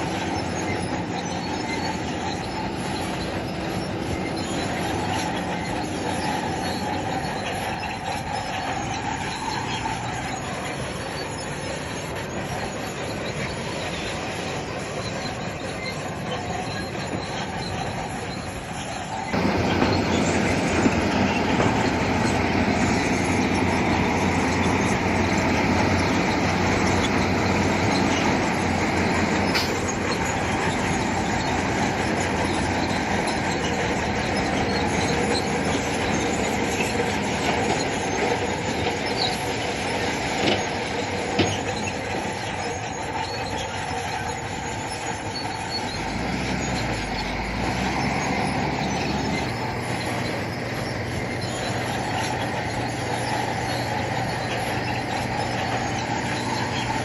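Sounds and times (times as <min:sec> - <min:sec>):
bulldozer engine under load: 0:00.0 - 0:57.0
steel tracks clanking and squealing: 0:00.0 - 0:57.0.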